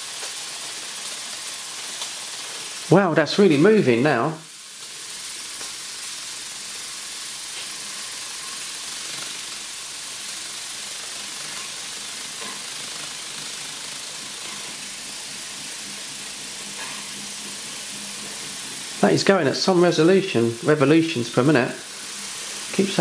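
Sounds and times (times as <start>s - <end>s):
high hiss of steam jetting: 0.0s - 23.0s.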